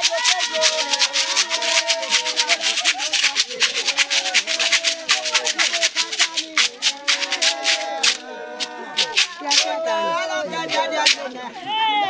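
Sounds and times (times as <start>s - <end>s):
gourd rattles shaking: 0.0s - 10.0s, 10.8s - 11.6s
voices singing: 0.0s - 12.0s.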